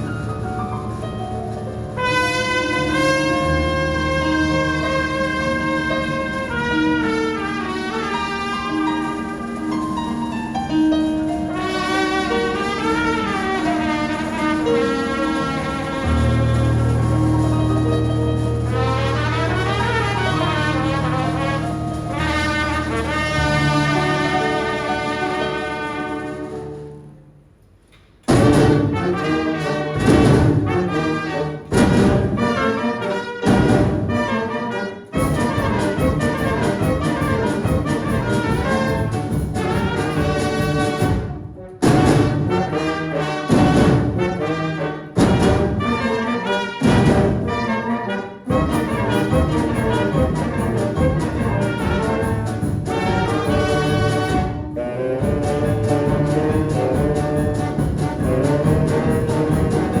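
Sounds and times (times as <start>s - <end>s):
brass band playing: 0.0s - 27.1s, 28.2s - 60.0s.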